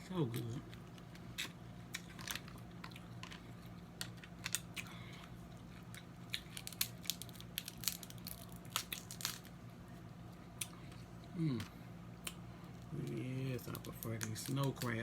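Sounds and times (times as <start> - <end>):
steady low hum: 0.0 - 15.0
chewing and cracking shell: 0.2 - 9.6, 10.2 - 15.0.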